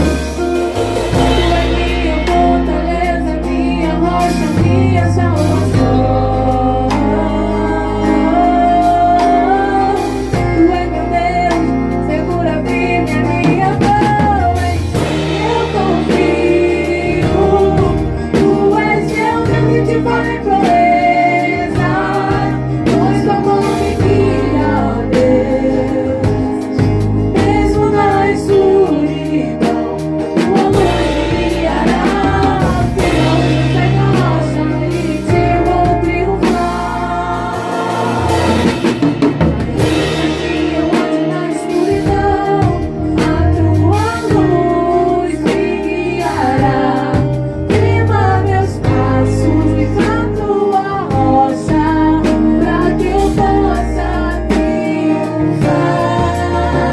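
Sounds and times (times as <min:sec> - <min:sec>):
bass and instrumental backing: 0:00.0 - 0:56.9
person singing gospel song: 0:00.0 - 0:56.9.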